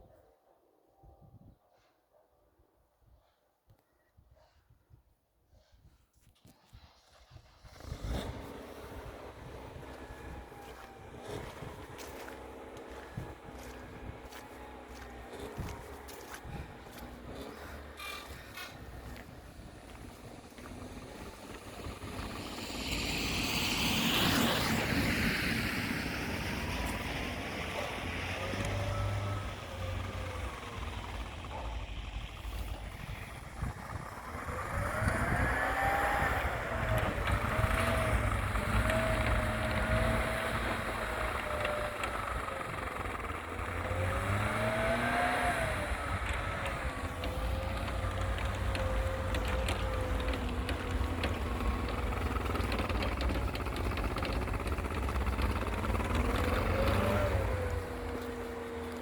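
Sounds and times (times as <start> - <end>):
atv engine revving: 7.5 - 59.0.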